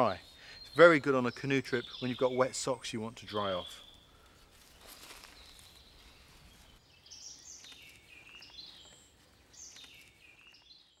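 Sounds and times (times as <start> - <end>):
bird singing faintly: 0.0 - 11.0.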